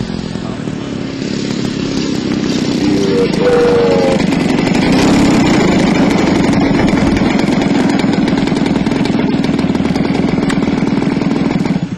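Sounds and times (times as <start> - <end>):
model plane engine puttering: 0.0 - 11.9.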